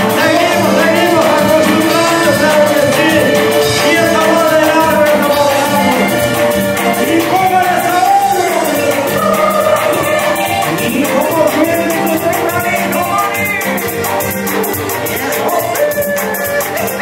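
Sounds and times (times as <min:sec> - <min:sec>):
upbeat latin music with singing: 0:00.0 - 0:17.0.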